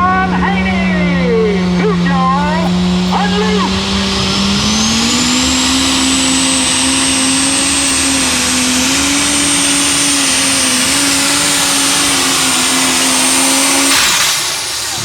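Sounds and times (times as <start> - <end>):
tractor engine at full throttle: 0.0 - 15.0
thin high whine: 1.4 - 15.0.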